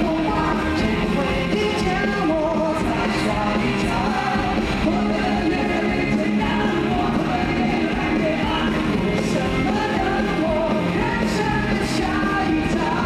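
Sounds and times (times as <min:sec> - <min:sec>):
live rock song: 0:00.0 - 0:13.0
man singing: 0:00.0 - 0:13.0.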